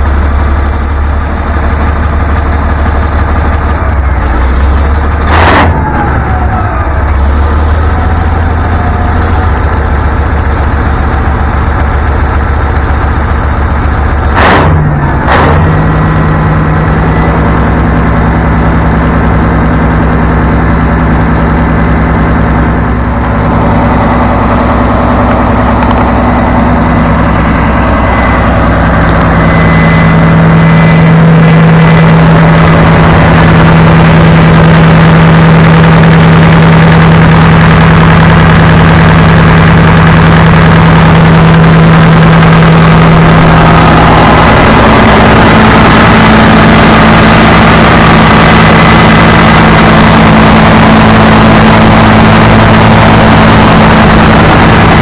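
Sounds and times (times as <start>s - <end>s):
diesel generator running: 0.0s - 55.0s.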